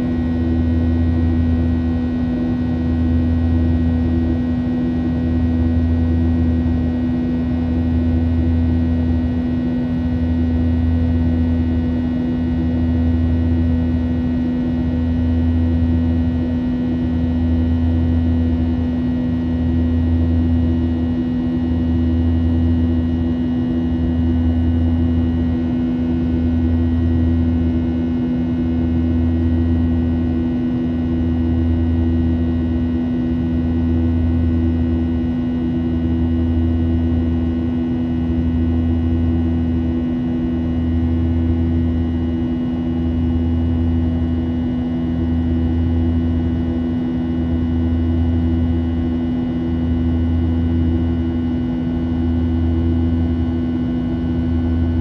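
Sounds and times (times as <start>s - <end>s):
jet engine cabin drone: 0.0s - 55.0s.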